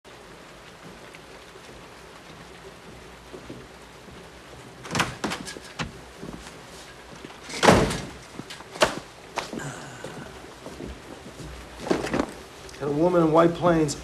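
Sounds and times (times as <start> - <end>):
faint rain hiss: 0.0 - 14.0.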